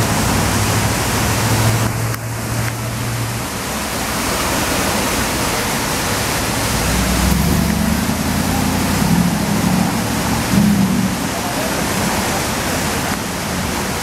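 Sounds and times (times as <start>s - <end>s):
car engine pulling away: 0.0s - 14.0s
steady rushing noise: 0.0s - 14.0s.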